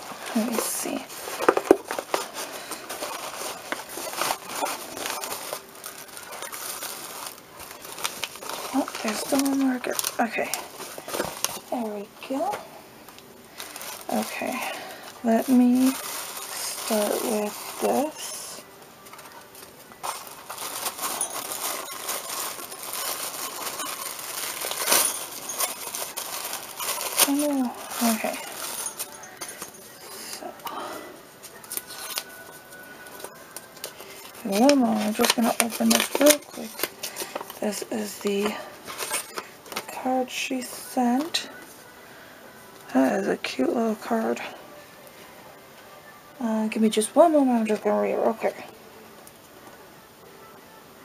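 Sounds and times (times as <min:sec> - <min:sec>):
paper rustling and crinkling: 0:00.0 - 0:41.9.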